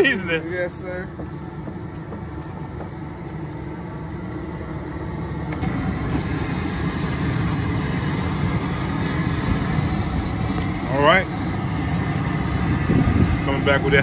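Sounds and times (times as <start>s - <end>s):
propane burner roaring: 0.0s - 14.0s.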